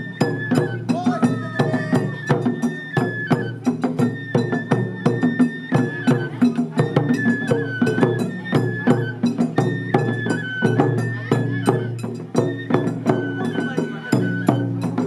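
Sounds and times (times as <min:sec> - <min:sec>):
bamboo flute melody: 0:00.0 - 0:15.0.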